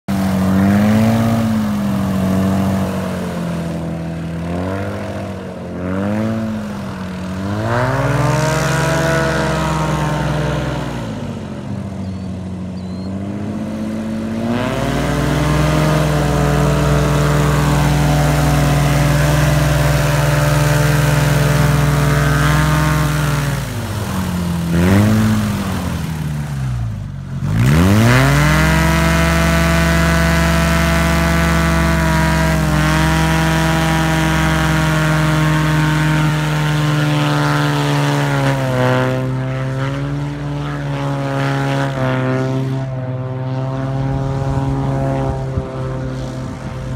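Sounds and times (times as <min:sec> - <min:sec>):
airboat engine revving: 0:00.0 - 0:46.9.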